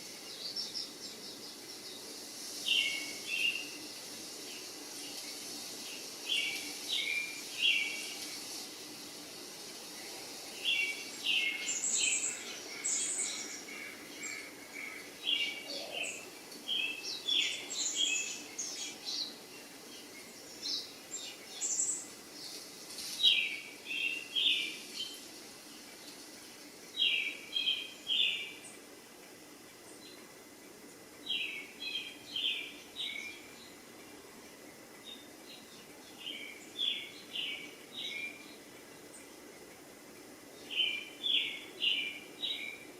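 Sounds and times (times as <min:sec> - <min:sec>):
faint background hiss: 0:00.0 - 0:42.9
small birds chirping: 0:00.0 - 0:42.9.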